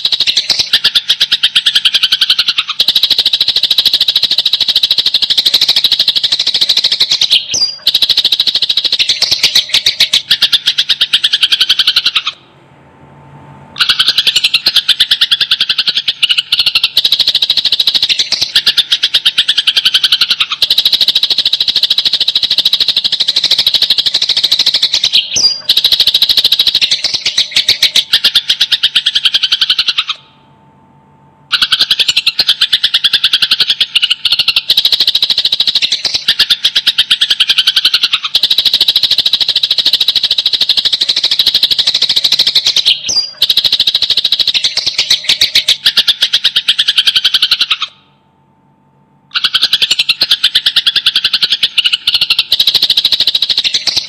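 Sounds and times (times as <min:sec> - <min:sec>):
sparrows chirping: 0:00.0 - 0:12.4, 0:13.8 - 0:30.2, 0:31.5 - 0:47.9, 0:49.3 - 0:54.0.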